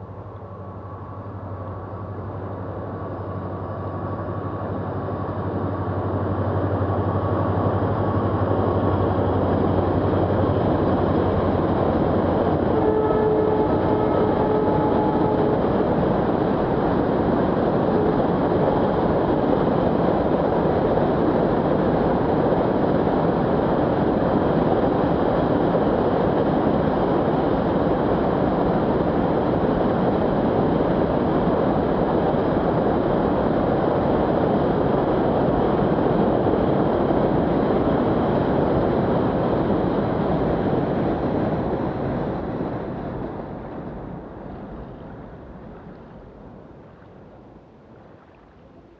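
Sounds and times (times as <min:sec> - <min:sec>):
freight train wheels rumbling on rails: 0:00.0 - 0:46.6.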